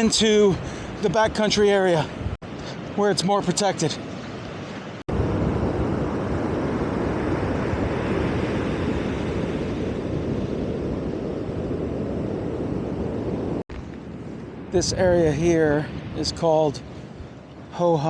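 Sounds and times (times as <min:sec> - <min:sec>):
ocean surf breaking: 0:00.0 - 0:18.0
strong wind: 0:00.0 - 0:18.0.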